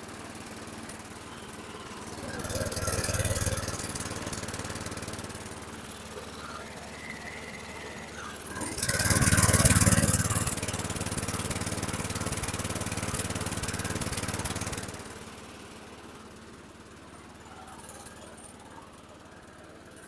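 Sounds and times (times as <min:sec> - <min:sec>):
push mower engine running: 0:00.0 - 0:20.0.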